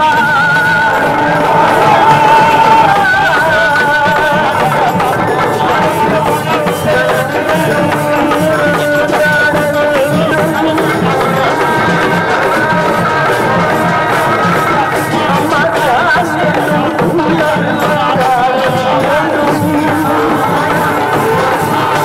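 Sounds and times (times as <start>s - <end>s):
steady drum beat: 0.0s - 22.0s.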